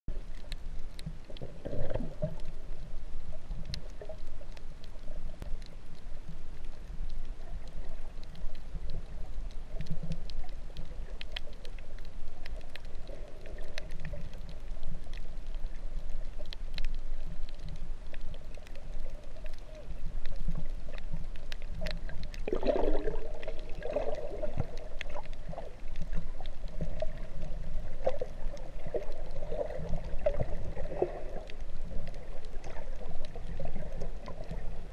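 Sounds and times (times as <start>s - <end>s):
underwater rumble of moving water: 0.1s - 34.9s.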